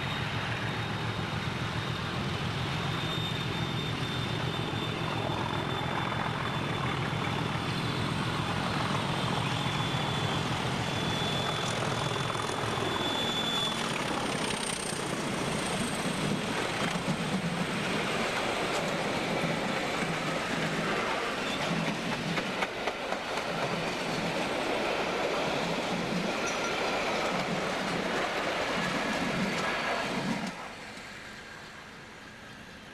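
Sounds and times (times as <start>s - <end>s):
train engine drone and rumble: 0.0s - 32.9s.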